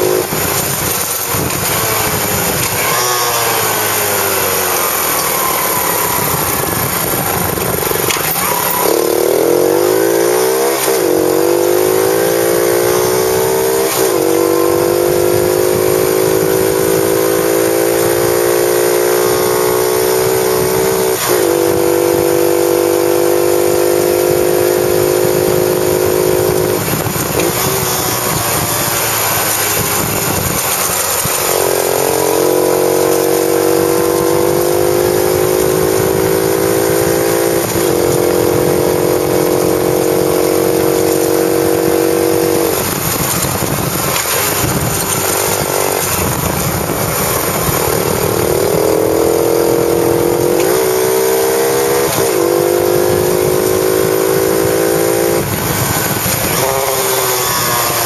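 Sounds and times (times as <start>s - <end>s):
dirt bike engine running hard: 0.0s - 58.0s
wind noise on microphone: 0.0s - 58.0s.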